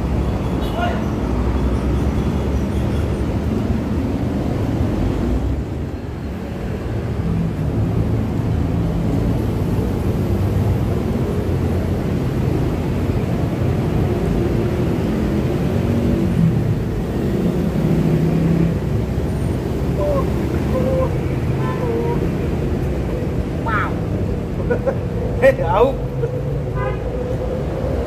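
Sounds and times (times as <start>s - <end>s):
heavy road traffic drone: 0.0s - 28.0s
trucks and buses passing: 0.0s - 28.0s.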